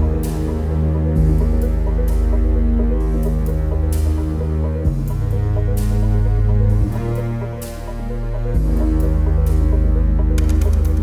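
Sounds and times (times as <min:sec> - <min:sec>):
deep sustained bass music: 0:00.0 - 0:11.0.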